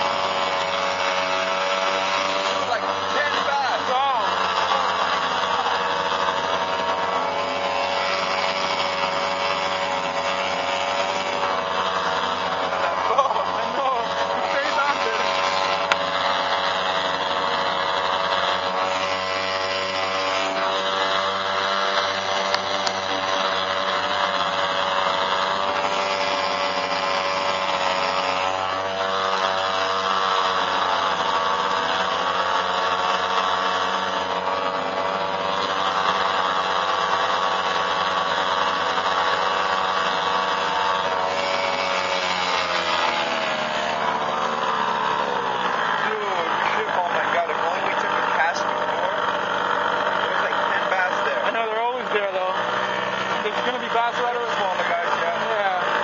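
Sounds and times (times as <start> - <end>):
outboard motors running: 0.0 - 56.0.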